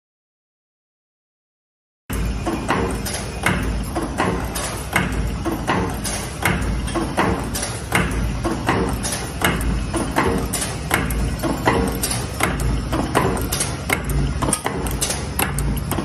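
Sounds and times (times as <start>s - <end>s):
steady low machine hum: 2.1s - 16.0s.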